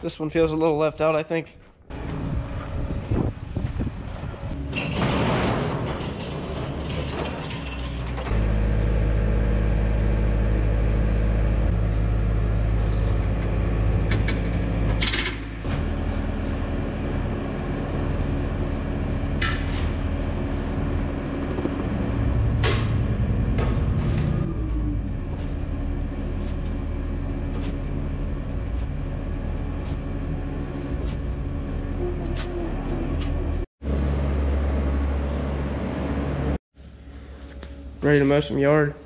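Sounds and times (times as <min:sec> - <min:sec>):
loader engine running: 0:01.9 - 0:38.0.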